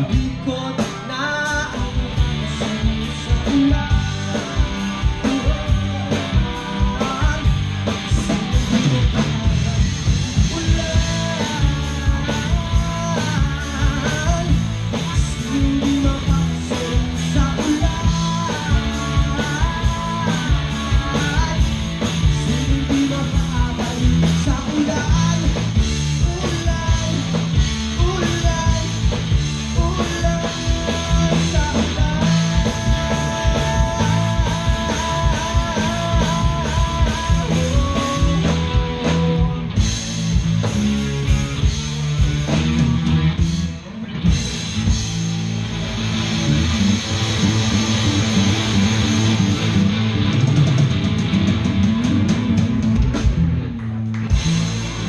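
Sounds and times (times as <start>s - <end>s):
bass guitar: 0.0s - 55.0s
steady drum beat: 0.0s - 55.0s
lead guitar melody: 0.8s - 55.0s.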